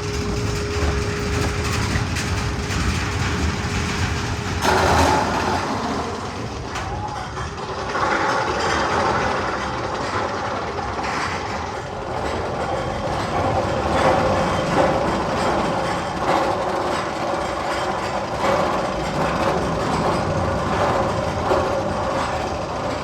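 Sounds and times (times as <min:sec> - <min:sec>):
rail rumbling and clattering: 0:00.0 - 0:23.0.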